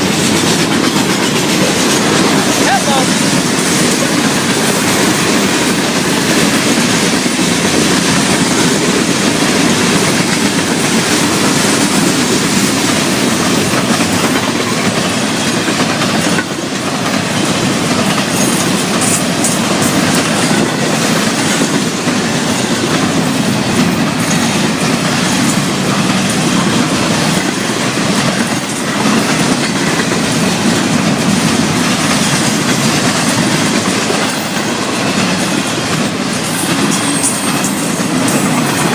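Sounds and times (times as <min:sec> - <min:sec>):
freight train rumbling: 0:00.0 - 0:38.9
wheels clacking over rails: 0:00.0 - 0:38.9.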